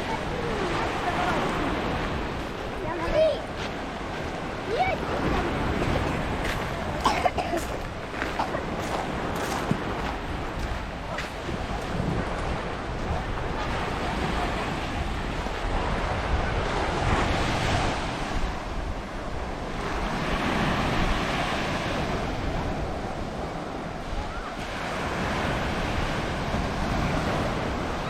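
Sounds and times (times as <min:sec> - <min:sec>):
surf breaking on a shore: 0:00.0 - 0:28.0
wind buffeting the microphone: 0:00.0 - 0:28.0.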